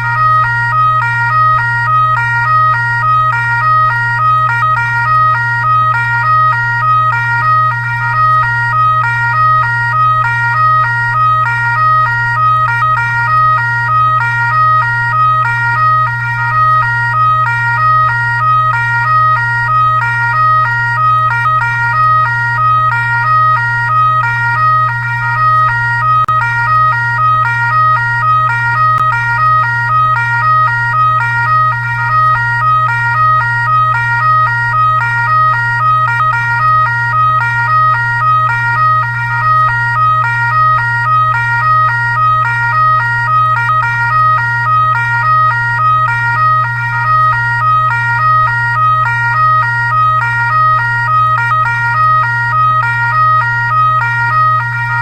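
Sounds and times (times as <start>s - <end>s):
fire truck siren warbling: 0.0s - 55.0s.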